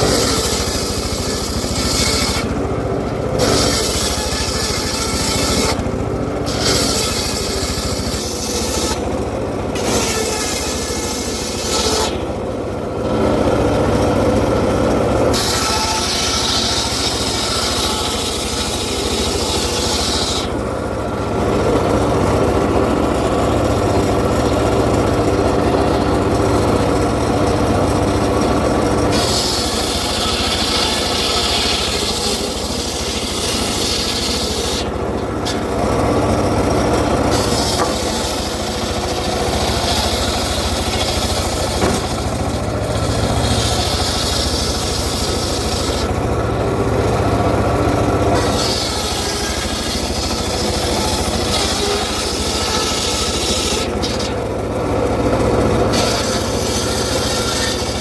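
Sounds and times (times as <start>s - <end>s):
circular saw cutting wood: 0.0s - 58.0s.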